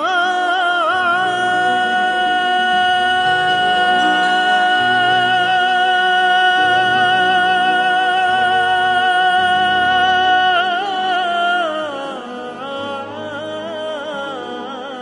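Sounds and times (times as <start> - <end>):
person singing long high note: 0.0 - 15.0
low instrumental accompaniment: 0.8 - 15.0.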